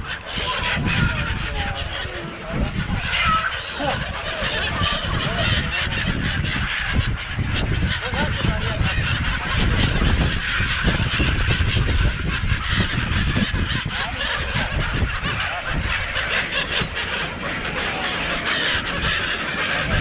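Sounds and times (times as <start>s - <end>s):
flock of gulls calling: 0.0s - 20.0s.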